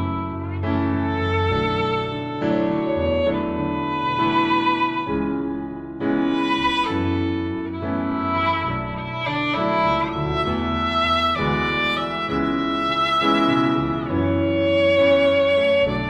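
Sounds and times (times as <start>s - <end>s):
violin melody with strings: 0.0s - 16.0s.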